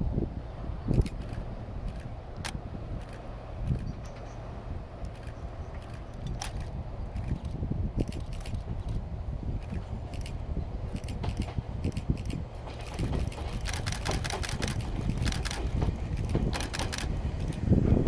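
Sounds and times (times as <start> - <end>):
wind rumbling on microphone: 0.0 - 18.0
train clicks and rattles: 0.6 - 18.0.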